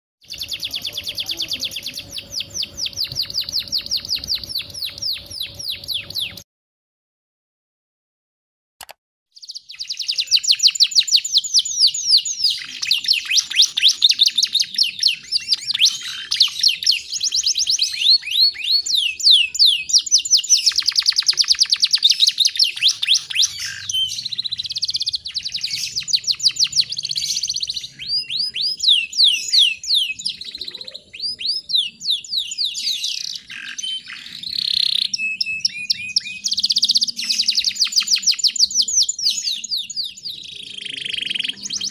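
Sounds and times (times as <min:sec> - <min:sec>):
canary singing trills: 0:00.2 - 0:06.4, 0:09.4 - 0:41.9.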